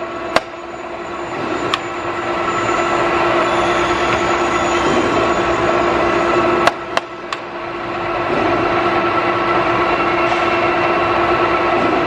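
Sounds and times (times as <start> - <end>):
metal lathe whine and rumble: 0.0 - 12.0.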